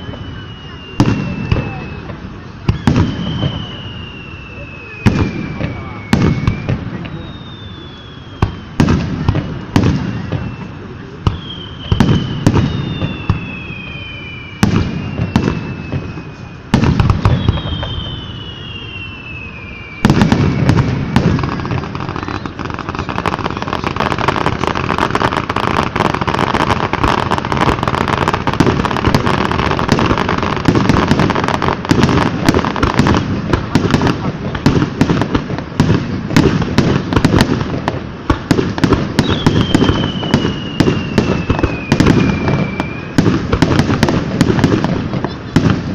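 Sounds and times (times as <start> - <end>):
falling firework whistle: 0.0 - 45.9
fireworks bangs: 0.0 - 45.9
fireworks crackling: 0.0 - 45.9.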